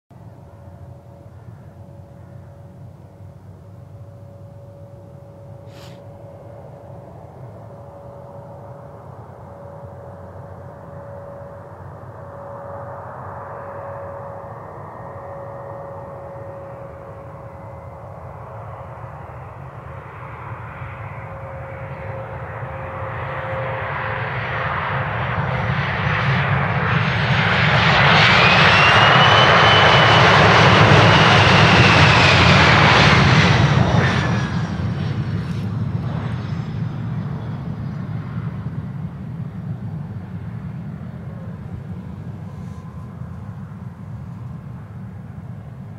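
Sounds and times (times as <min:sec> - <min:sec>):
high engine whine: 0:00.1 - 0:45.9
jet engines under reverse thrust: 0:00.1 - 0:45.9.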